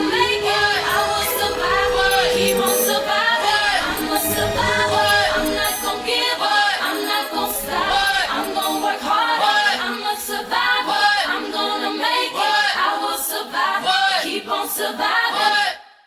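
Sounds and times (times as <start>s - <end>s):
women singing in harmony: 0.0s - 16.0s.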